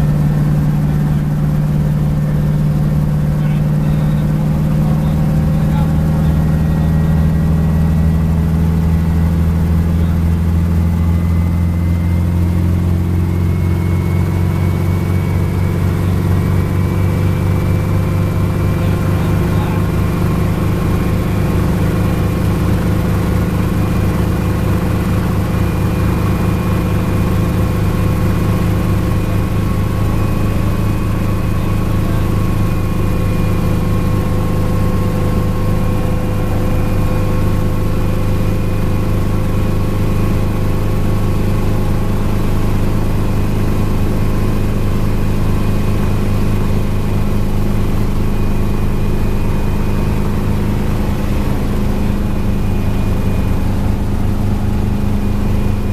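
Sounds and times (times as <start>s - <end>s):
helicopter engine and rotor drone: 0.0s - 55.9s.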